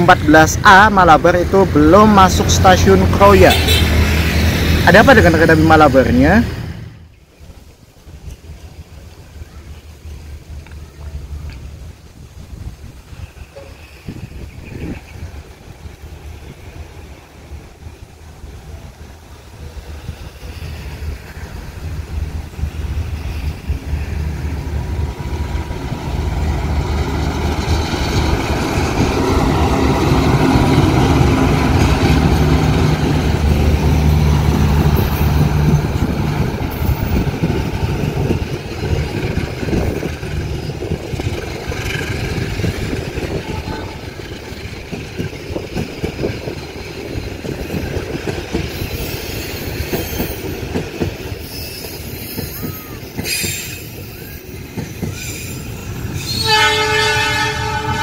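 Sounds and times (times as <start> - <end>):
diesel locomotive passing: 0.0 - 58.0.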